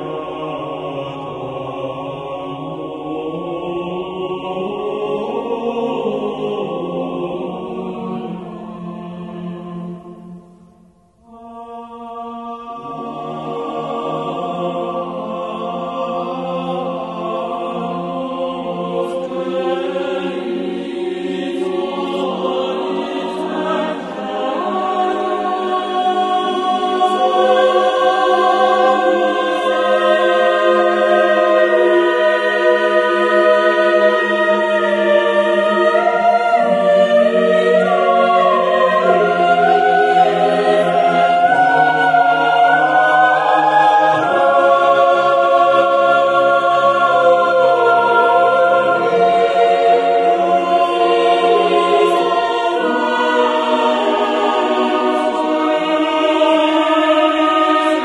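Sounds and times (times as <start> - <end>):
choir singing sustained chords: 0.0 - 58.0.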